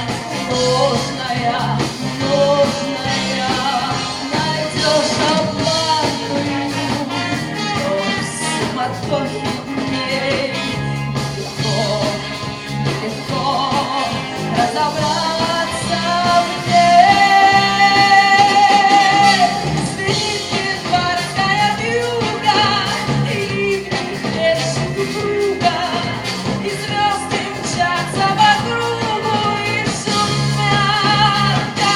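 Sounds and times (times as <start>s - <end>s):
live rock band playing: 0.0s - 31.9s
melodic lead line: 0.0s - 31.9s.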